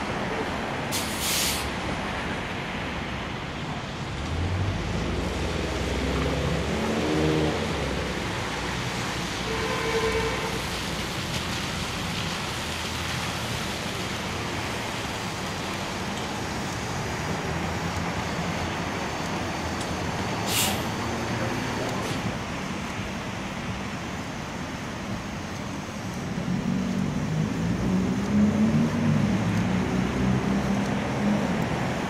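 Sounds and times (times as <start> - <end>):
traffic: 0.0 - 32.0
tyres hissing on wet pavement: 0.0 - 32.0.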